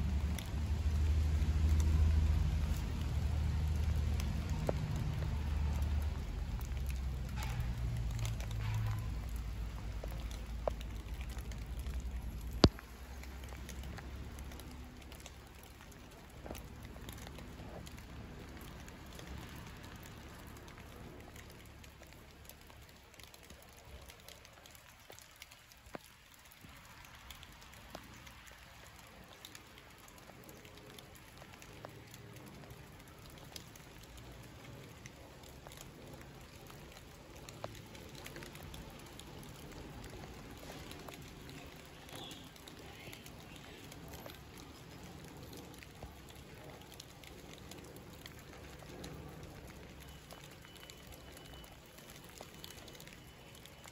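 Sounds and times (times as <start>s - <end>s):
light rain pattering and dripping: 0.0s - 53.9s
small ticks: 0.0s - 53.9s.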